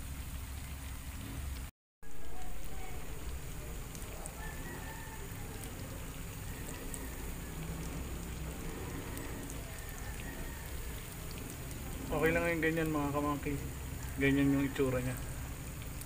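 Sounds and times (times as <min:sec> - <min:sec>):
tofu sizzling in hot oil: 0:00.0 - 0:16.0.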